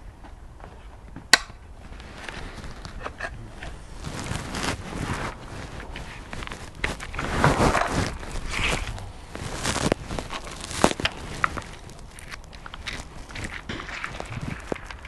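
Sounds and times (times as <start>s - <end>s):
crunching footsteps: 0.0s - 15.0s
rustling: 1.7s - 15.0s.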